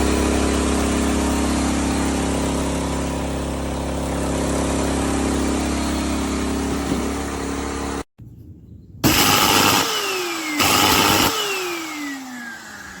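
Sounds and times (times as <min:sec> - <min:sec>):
dust extractor motor running: 0:00.0 - 0:08.1, 0:09.0 - 0:13.0
motor whine spinning down: 0:00.0 - 0:08.1, 0:09.0 - 0:13.0.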